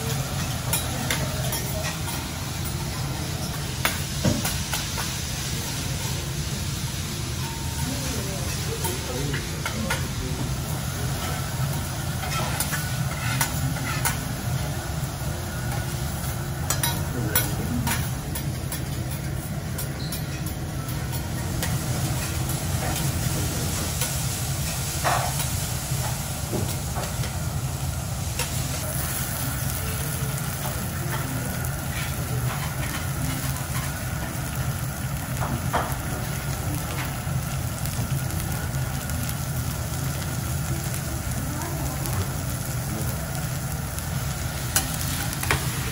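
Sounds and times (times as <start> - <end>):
food sizzling on a griddle: 0.0 - 45.9.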